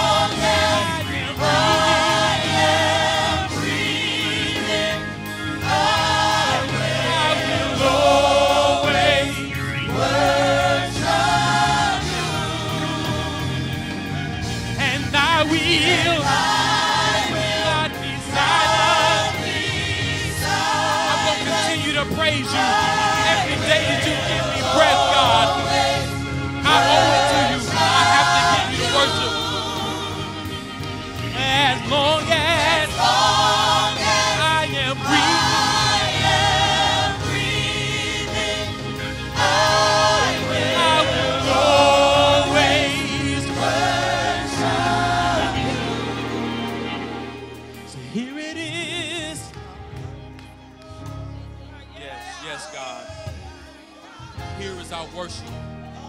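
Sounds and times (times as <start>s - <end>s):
choir singing in harmony: 0.0s - 56.0s
instrumental backing: 0.0s - 56.0s.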